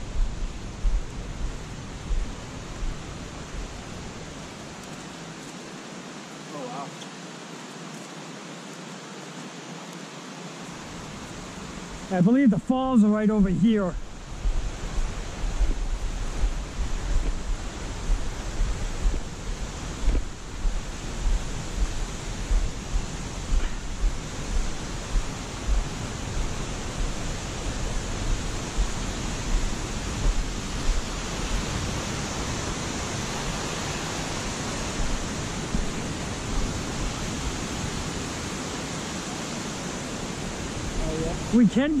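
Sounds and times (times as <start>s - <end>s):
footsteps on leafy slope: 0.0s - 39.2s
waterfall rushing: 0.0s - 42.0s.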